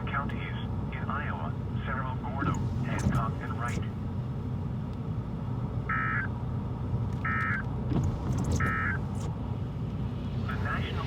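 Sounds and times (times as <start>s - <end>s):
road rumble inside vehicle: 0.0s - 11.0s.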